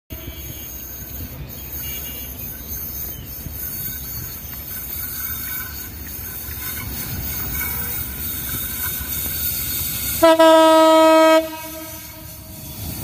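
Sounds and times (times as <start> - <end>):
high wheel squeal: 0.1 - 13.0
locomotive engine and rail rumble: 0.1 - 13.0.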